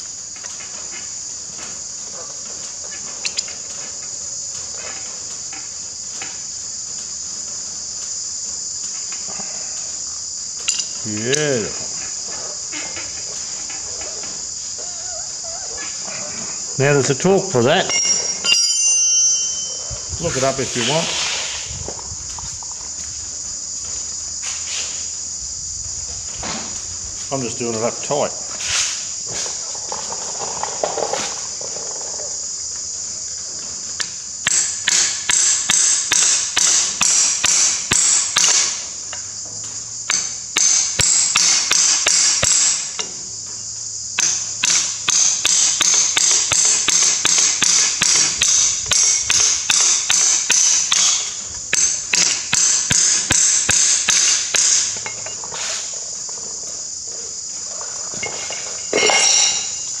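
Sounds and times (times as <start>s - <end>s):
crickets chirping: 0.0s - 60.0s.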